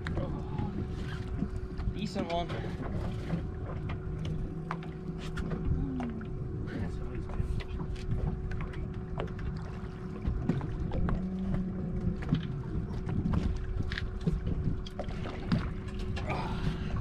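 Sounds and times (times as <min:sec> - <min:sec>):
constant hum: 0:00.0 - 0:17.0
wind and water rumble: 0:00.0 - 0:17.0.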